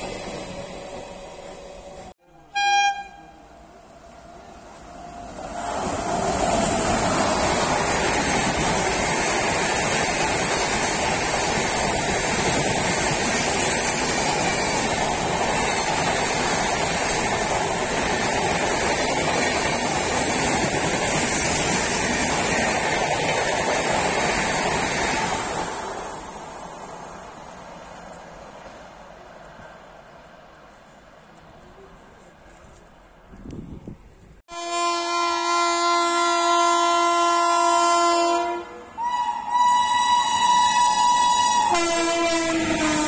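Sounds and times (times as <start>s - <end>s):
train wheels rushing on rails: 0.0s - 2.1s, 4.0s - 34.4s, 36.8s - 43.0s.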